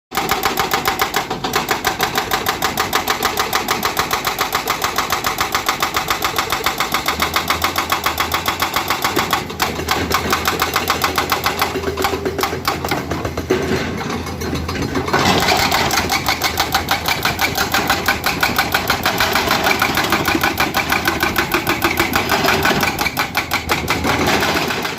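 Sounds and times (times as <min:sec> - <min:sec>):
hydraulic breaker hammering rock: 0:00.1 - 0:24.9.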